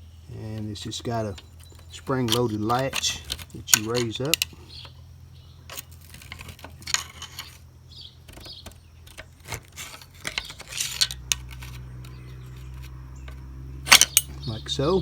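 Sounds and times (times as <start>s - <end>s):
steady low hum: 0.0s - 15.0s
metal latch clicks and rattles: 0.5s - 14.5s.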